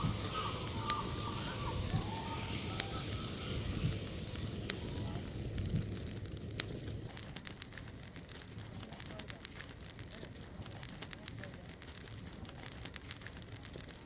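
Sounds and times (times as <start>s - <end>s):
bonfire crackling and popping: 0.0s - 14.0s
low rush of burning wood: 0.0s - 14.0s.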